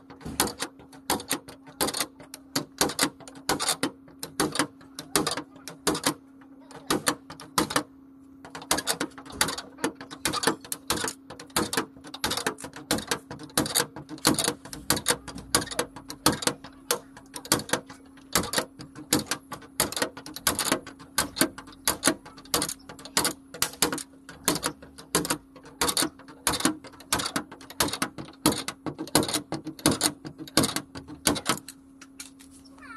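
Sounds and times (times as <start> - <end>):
steady hum: 0.0 - 32.9.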